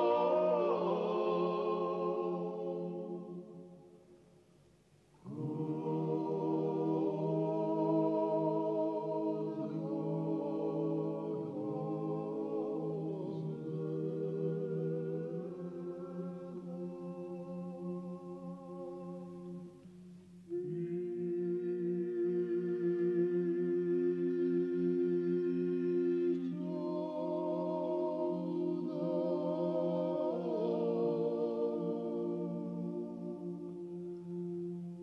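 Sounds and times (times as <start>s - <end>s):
polyphonic choir singing: 0.0s - 4.1s, 5.2s - 35.0s.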